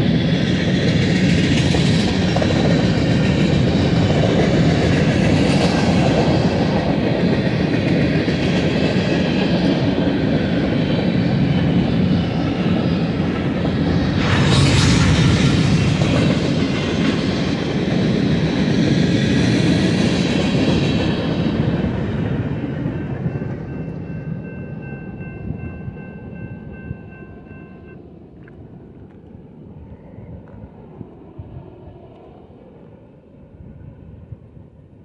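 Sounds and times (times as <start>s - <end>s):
freight train rumbling past: 0.0s - 34.6s.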